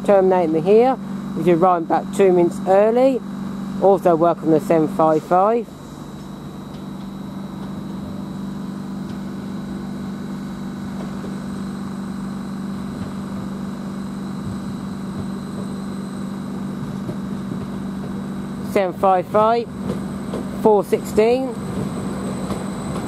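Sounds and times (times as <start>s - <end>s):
train diesel engine hum: 0.0s - 23.0s.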